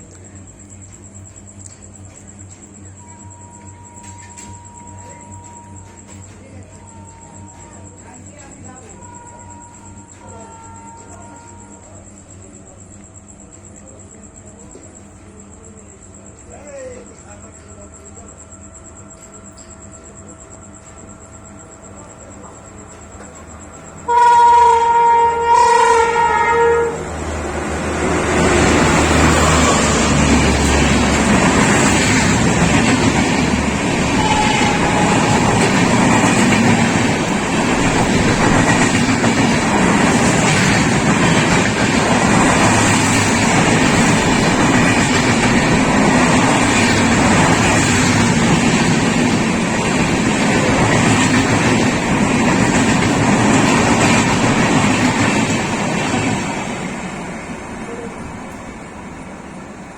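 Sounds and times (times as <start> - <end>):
passenger train passing: 0.0 - 59.9.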